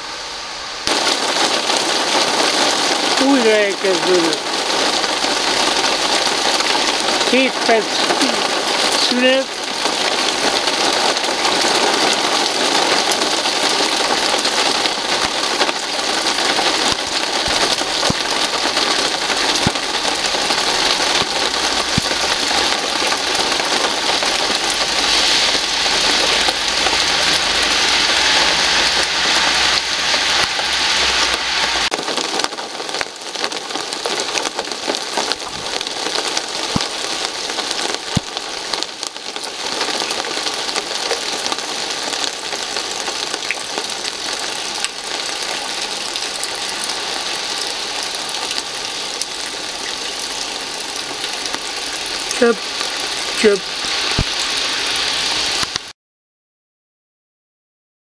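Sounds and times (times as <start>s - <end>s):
heavy rain on leaves and paving: 0.0s - 56.0s
water dripping off branches: 0.9s - 55.9s.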